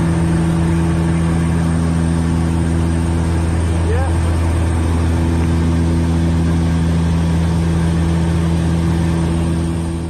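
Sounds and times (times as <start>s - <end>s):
aircraft engines droning: 0.0s - 10.0s.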